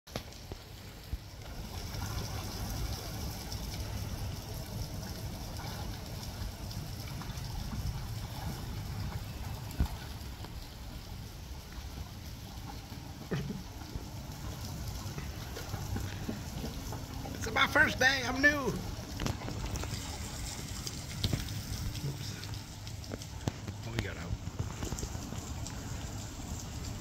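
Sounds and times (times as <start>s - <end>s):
outdoor rumble and hiss: 0.2s - 27.0s
dogs splashing in water: 0.3s - 27.0s.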